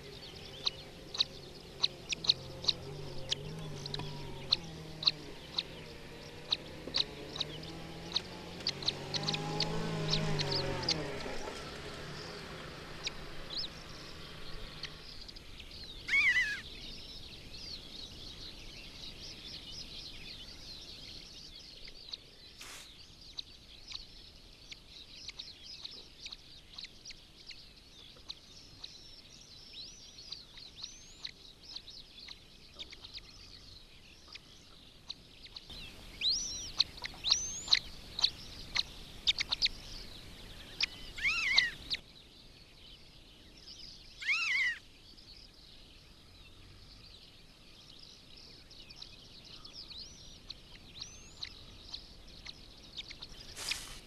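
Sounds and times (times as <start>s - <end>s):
bird chicks cheeping: 0.0s - 54.0s
faint chirping: 0.0s - 54.0s
loud bird calls: 0.0s - 54.0s.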